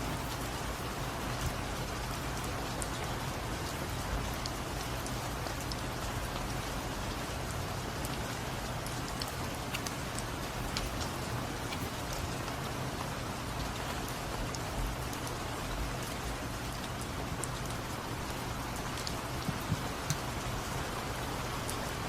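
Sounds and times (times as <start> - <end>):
low steady hum: 0.0 - 22.0
raindrops ticking: 0.0 - 22.0
steady rain falling: 0.0 - 22.0.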